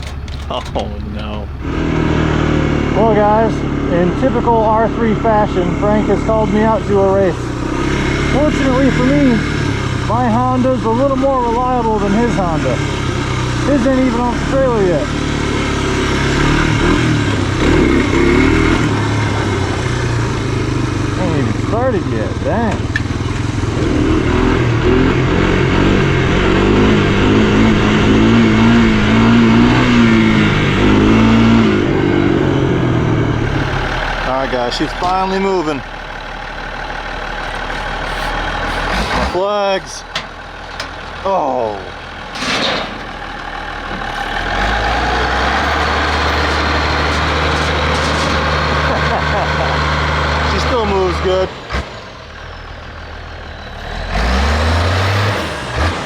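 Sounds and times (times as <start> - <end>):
three-wheeler engine revving: 0.0 - 56.0.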